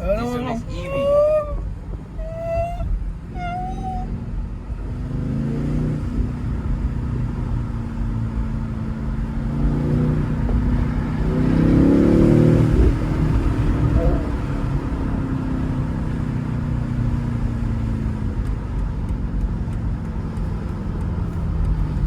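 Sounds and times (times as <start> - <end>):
car accelerating: 0.0 - 22.0
low road rumble in car: 0.0 - 22.0.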